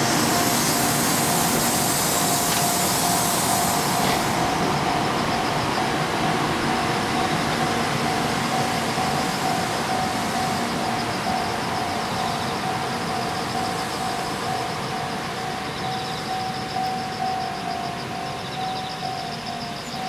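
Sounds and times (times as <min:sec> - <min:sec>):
level crossing warning bell: 0:00.0 - 0:20.0
train rail noise: 0:00.0 - 0:20.0.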